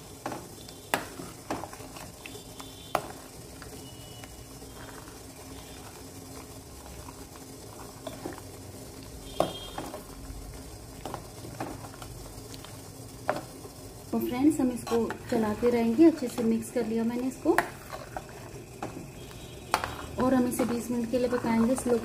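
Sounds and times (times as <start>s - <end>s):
spoon stirring milk in pan: 0.1s - 13.6s, 14.7s - 22.0s.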